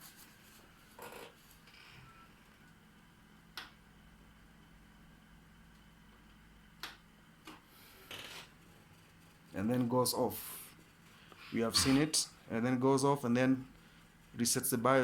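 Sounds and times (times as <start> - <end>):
faint computer hum: 0.0 - 15.0.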